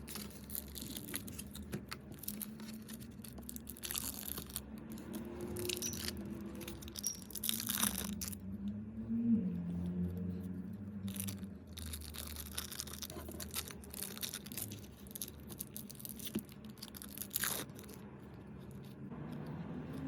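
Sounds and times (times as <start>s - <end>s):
packaging crackling and tearing: 0.0s - 8.4s, 11.0s - 19.0s.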